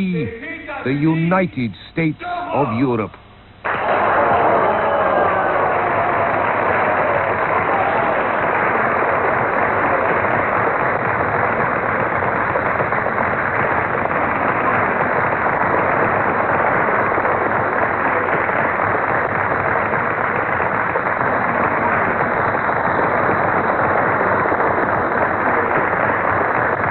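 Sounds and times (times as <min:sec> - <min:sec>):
crowd applauding: 0:03.6 - 0:26.9
crowd voices: 0:03.7 - 0:26.9.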